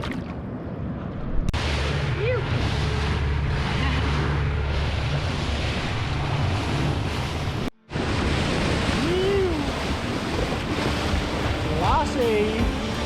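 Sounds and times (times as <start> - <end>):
water rushing around boat: 0.0 - 13.0
wind buffeting microphone: 0.0 - 13.0.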